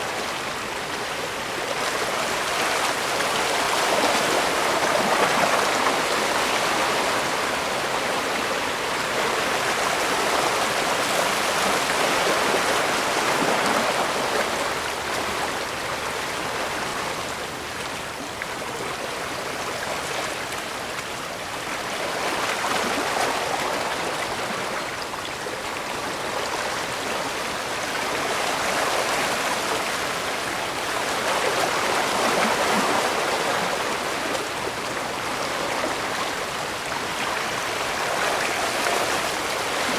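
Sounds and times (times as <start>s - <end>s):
water rushing like waves: 0.0s - 39.9s.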